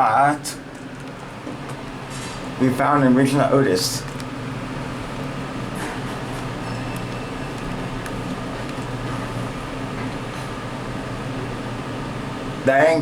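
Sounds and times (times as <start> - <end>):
elevator mechanical hum: 0.0 - 13.0.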